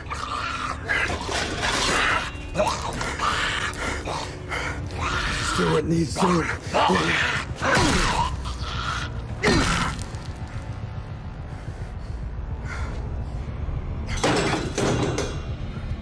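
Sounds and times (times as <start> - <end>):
low drone of dramatic score: 0.0 - 16.0.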